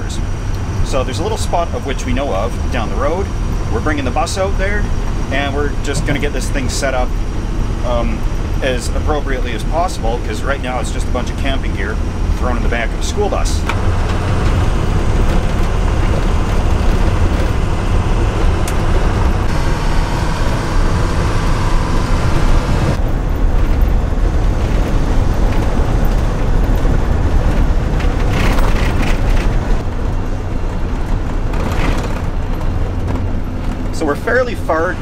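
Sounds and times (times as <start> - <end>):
bus driving on gravel: 0.0 - 35.0.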